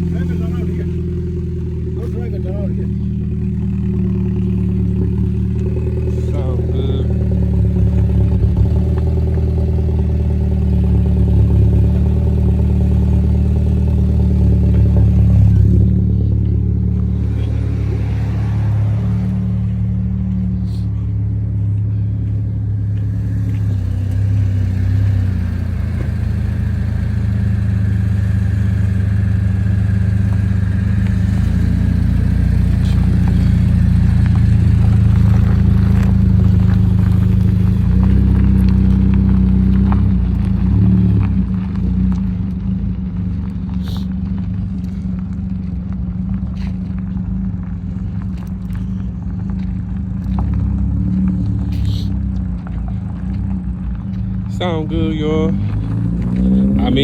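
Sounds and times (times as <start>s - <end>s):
car engine with loud low exhaust: 0.0s - 57.0s.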